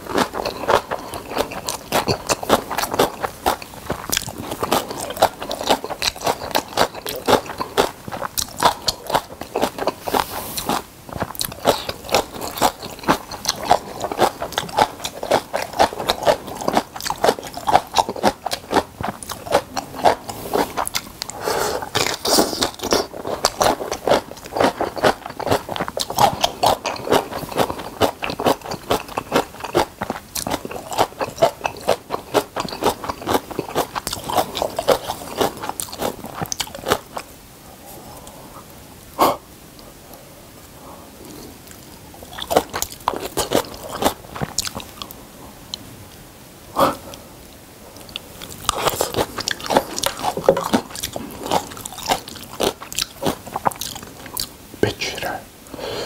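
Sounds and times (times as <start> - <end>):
wet chewing and crunching: 0.0 - 37.3, 41.2 - 46.2, 47.9 - 54.6.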